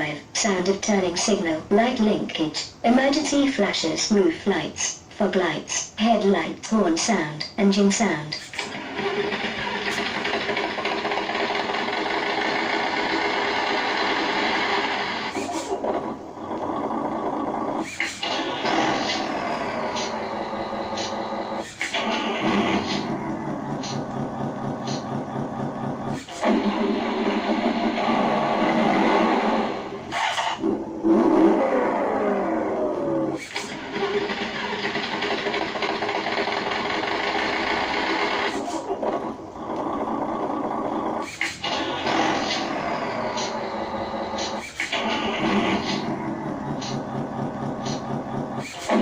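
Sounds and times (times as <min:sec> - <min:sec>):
simulated engine sound from speaker: 0:00.0 - 0:49.0.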